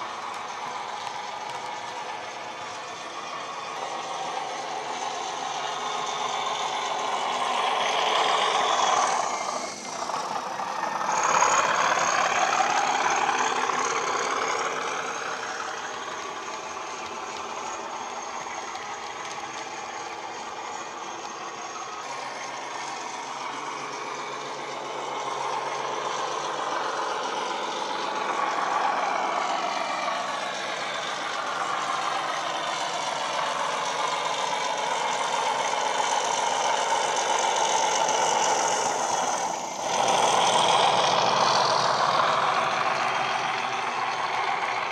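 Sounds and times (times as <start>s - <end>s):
simulated diesel locomotive engine: 0.0s - 44.9s.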